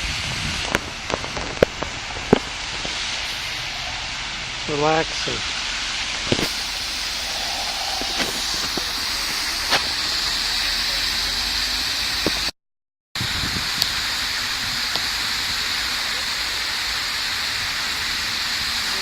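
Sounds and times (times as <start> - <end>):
fountain jets splashing water: 0.0 - 12.5, 13.2 - 19.0.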